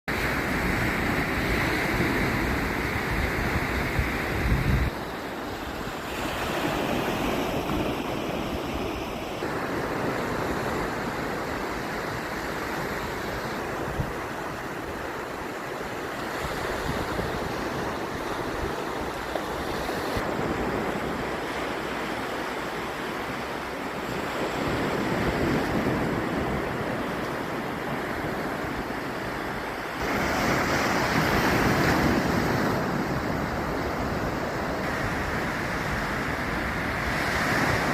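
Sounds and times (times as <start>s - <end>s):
waves breaking on beach: 0.1s - 37.9s.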